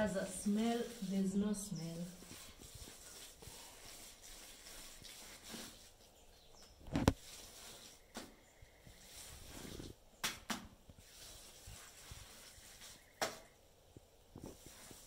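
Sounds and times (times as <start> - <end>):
hands rubbing on earthen floor: 0.0 - 10.0, 11.0 - 13.5, 14.4 - 15.0.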